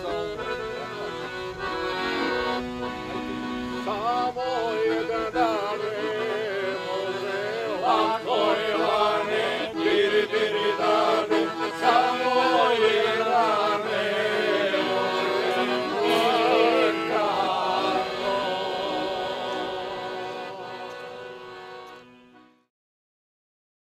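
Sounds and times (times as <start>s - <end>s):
voices singing a folk song: 0.0s - 22.1s.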